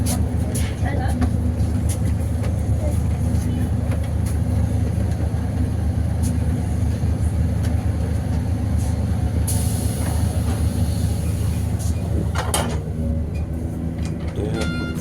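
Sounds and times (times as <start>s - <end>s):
bus engine droning: 0.0s - 15.0s.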